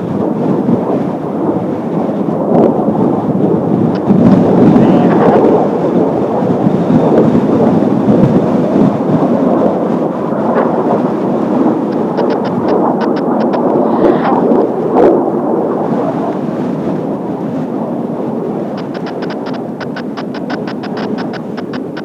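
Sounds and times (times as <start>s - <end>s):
jet engines roaring past: 0.0s - 22.0s.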